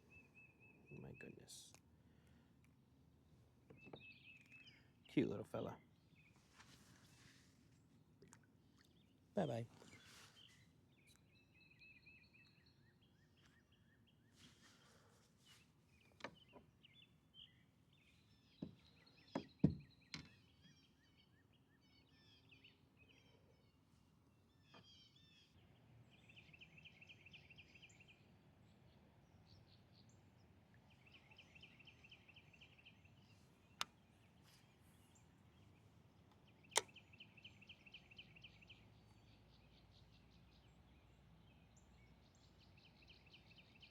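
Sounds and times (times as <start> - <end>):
faint birdsong with trills: 0.0 - 43.9.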